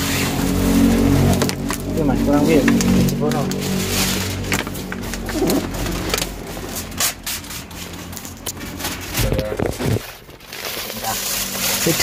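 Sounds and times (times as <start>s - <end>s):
plastic film rustling and crackling: 0.0s - 12.0s.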